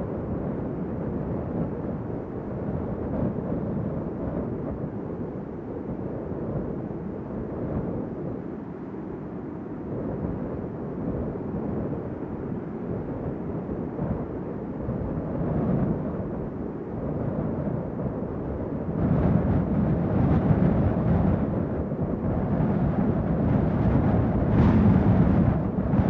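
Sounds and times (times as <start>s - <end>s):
strong wind gusts: 0.0s - 26.0s.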